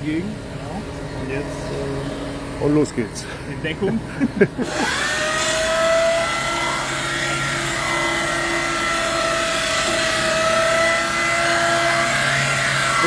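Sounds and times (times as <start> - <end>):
grinding discs whining and rasping: 0.0 - 13.0.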